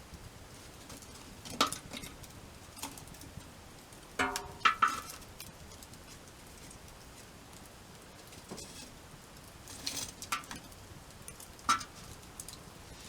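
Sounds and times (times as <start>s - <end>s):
faint steady hiss: 0.0s - 13.0s
campfire cracks and knocks: 0.7s - 12.7s.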